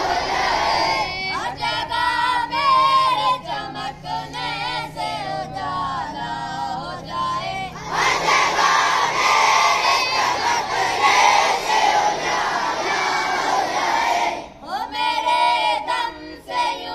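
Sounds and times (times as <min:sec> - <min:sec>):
boy singing chant: 0:00.0 - 0:16.9
children singing in unison: 0:00.0 - 0:16.9.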